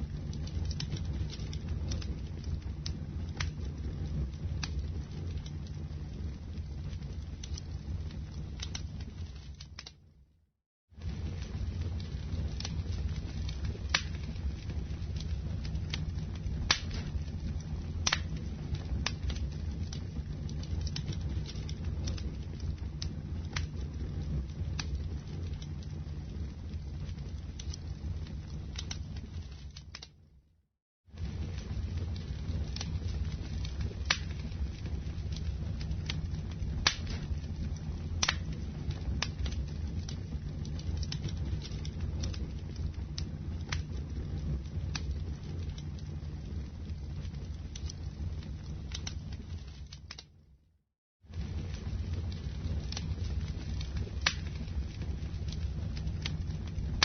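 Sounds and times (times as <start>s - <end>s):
fire crackling and popping: 0.0s - 10.4s, 11.0s - 30.5s, 31.1s - 50.6s, 51.3s - 57.0s
fire rumbling: 0.0s - 57.0s.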